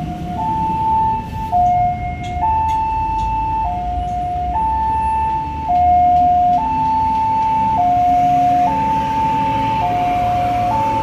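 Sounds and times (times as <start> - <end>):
two-tone level crossing siren: 0.0 - 11.0.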